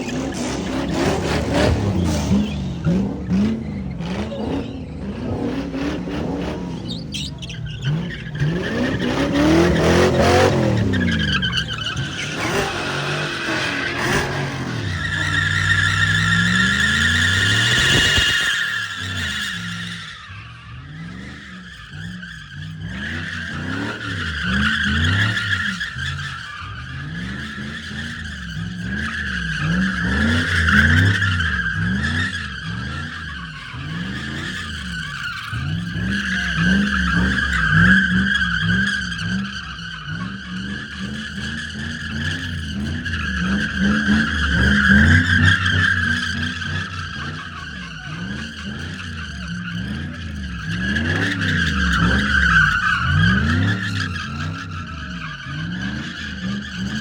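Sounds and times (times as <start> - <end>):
car engine revving: 0.0 - 57.0
tire squealing: 0.0 - 57.0.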